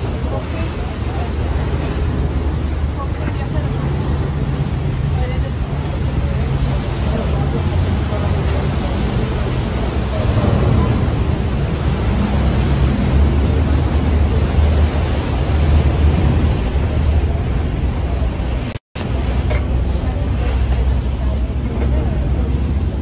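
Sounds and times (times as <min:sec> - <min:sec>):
ferry engines rumbling: 0:00.0 - 0:23.0
wind and water rushing: 0:00.0 - 0:23.0.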